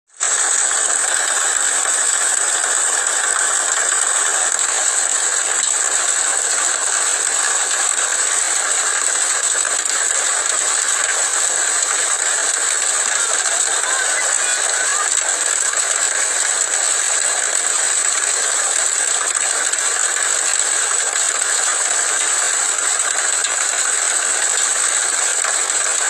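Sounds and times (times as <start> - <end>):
hailstones clattering: 0.2 - 26.0.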